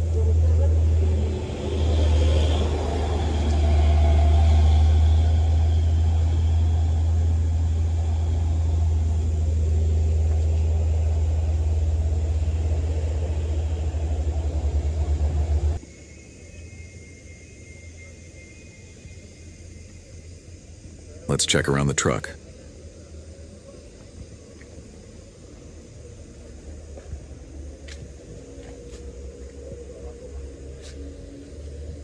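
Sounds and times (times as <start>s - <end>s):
low vehicle engine rumble: 0.0s - 15.9s, 18.0s - 32.0s.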